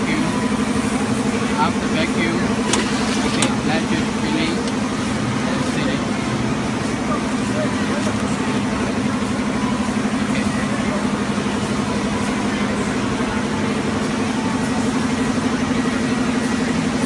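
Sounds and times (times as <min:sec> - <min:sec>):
bag sealer machine humming: 0:00.0 - 0:17.0.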